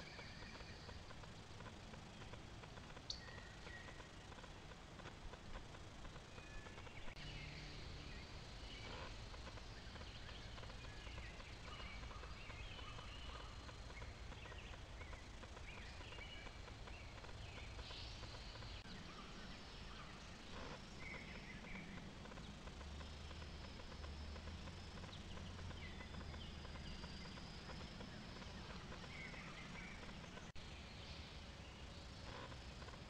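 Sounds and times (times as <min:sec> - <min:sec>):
faint birdsong and chirps: 0:00.0 - 0:33.0
microphone hiss: 0:00.0 - 0:33.0.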